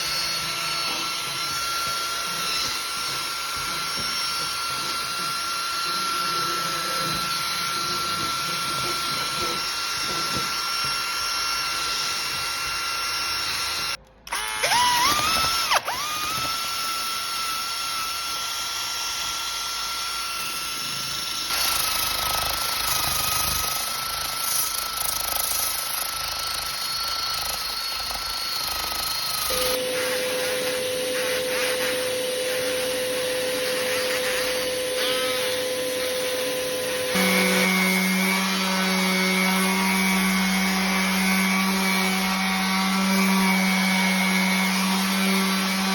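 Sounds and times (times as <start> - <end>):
electric power tool motor running: 0.0 - 45.9.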